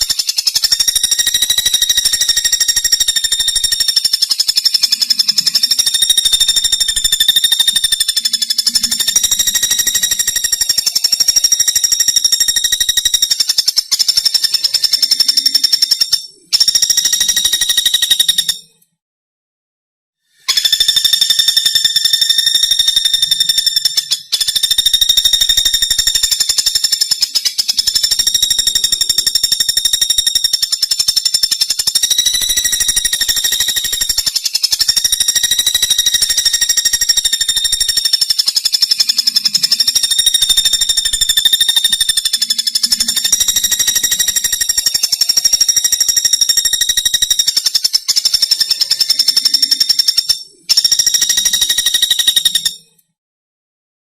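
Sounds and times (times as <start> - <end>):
woodpecker rattling trill: 0.0 - 18.8, 20.3 - 53.1.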